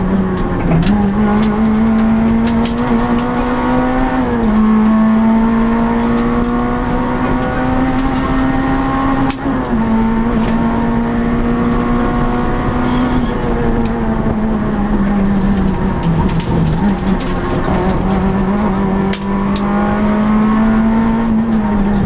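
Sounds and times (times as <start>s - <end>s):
rally car engine at high revs: 0.0s - 22.0s.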